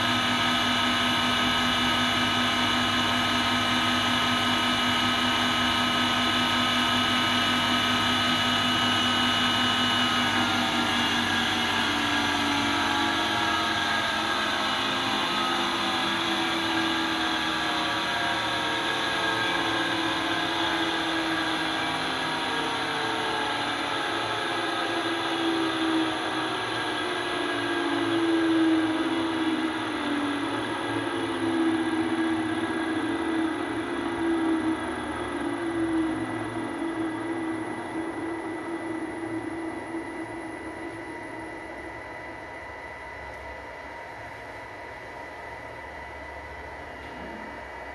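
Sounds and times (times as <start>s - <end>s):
electric motor hum and whine: 0.0s - 47.9s.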